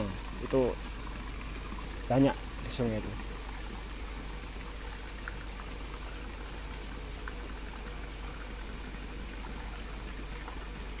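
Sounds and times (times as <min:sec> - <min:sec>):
crickets chirping: 0:00.0 - 0:10.4.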